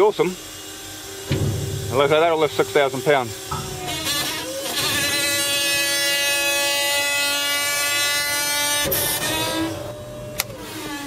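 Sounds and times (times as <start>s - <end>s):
electric hydraulic pump whine: 0.0s - 11.0s.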